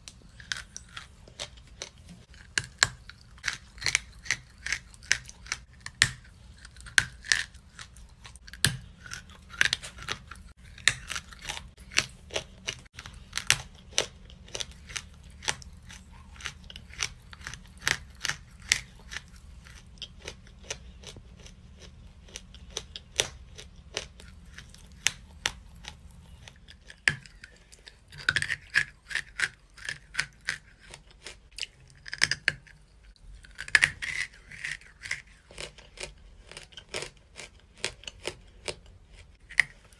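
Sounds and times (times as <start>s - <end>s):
chewing chalk crunches: 0.0s - 39.9s.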